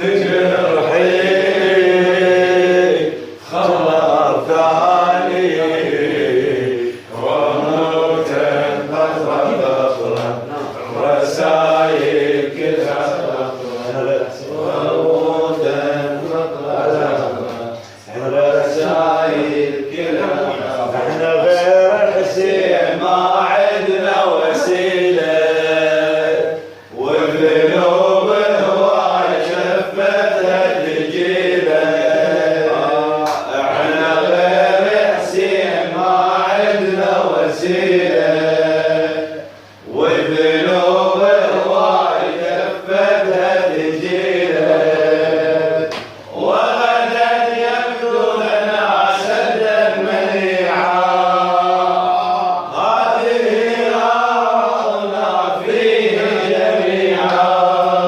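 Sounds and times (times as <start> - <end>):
man chanting melodically: 0.0 - 58.0.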